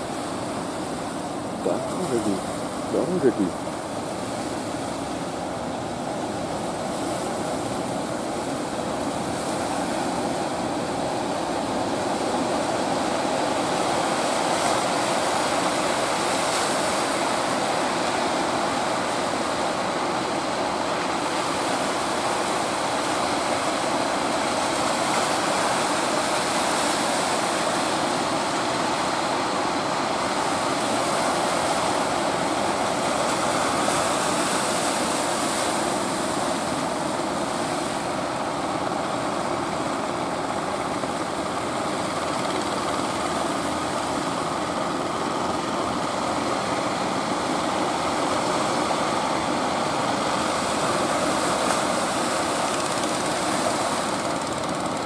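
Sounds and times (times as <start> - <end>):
surf and waves rushing: 0.0 - 55.0.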